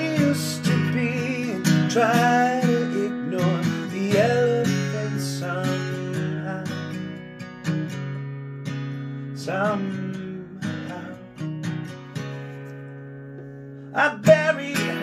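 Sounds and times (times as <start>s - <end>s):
acoustic guitar strummed and picked: 0.0s - 15.0s.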